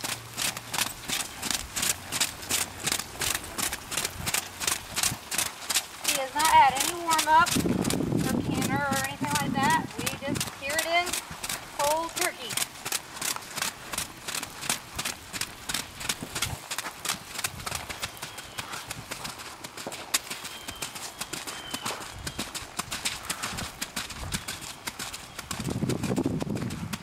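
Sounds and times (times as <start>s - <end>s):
pony hoofbeats trotting: 0.0s - 27.0s.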